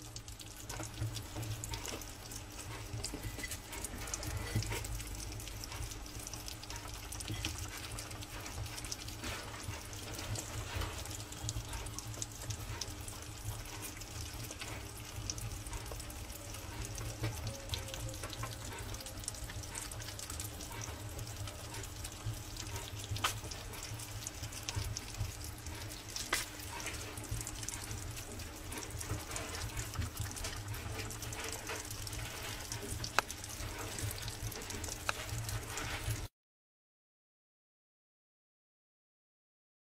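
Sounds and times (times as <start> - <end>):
hedgehogs chewing and lapping: 0.0 - 36.3.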